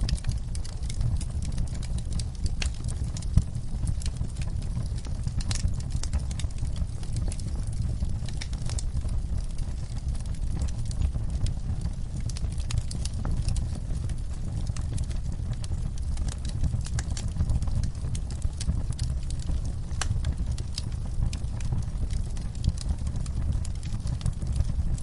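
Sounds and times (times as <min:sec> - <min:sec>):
low rumble of fire: 0:00.0 - 0:25.0
wood fire crackling and snapping: 0:00.0 - 0:25.0.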